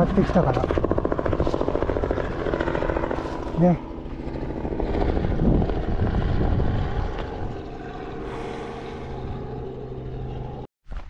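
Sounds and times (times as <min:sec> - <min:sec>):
helicopter rotor drone: 0:00.0 - 0:10.7.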